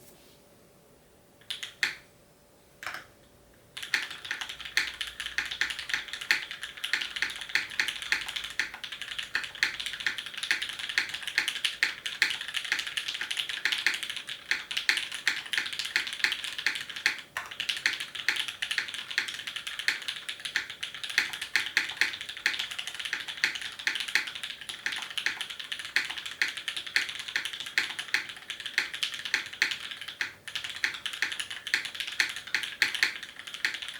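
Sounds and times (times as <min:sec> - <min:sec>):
mechanical keyboard typing: 0:01.4 - 0:02.0, 0:03.8 - 0:33.9.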